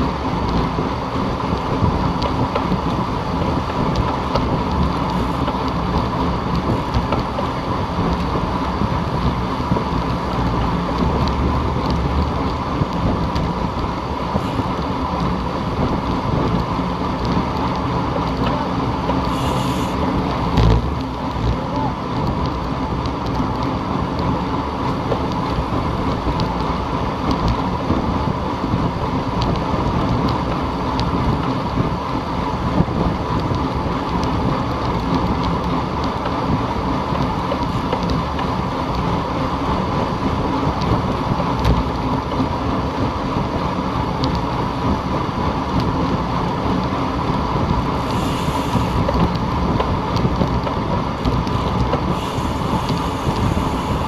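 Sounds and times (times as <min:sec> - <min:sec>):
rolling noise: 0:00.0 - 0:54.0
wind rushing over microphone: 0:00.0 - 0:54.0.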